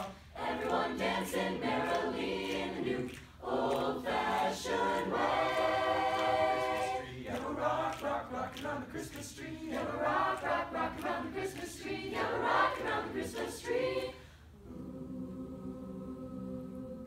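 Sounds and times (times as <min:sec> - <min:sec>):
a cappella choir singing: 0:00.0 - 0:17.0.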